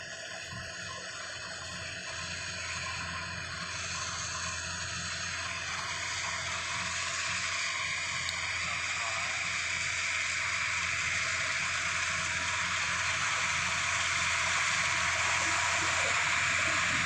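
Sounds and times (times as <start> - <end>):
combine harvester working: 0.0 - 17.0.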